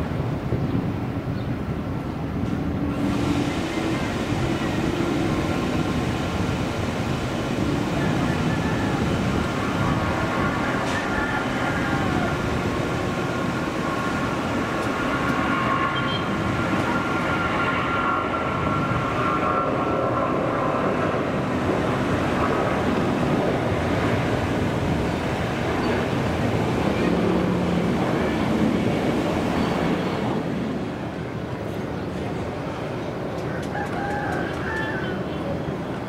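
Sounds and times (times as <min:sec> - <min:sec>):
jet airliner takeoff roar: 0:00.0 - 0:36.0
whining jet engine tones: 0:02.6 - 0:31.8.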